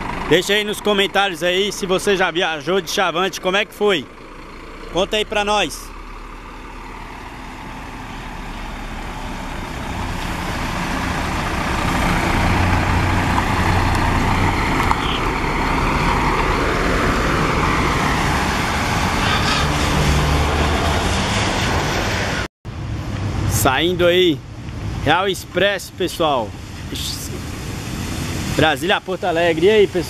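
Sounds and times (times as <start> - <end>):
bus engine running: 0.0 - 30.0.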